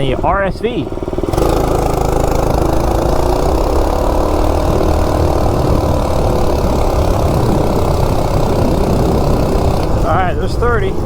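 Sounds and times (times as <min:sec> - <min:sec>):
minibike engine at full throttle: 0:00.0 - 0:11.0
wind rumble on microphone: 0:00.0 - 0:11.0.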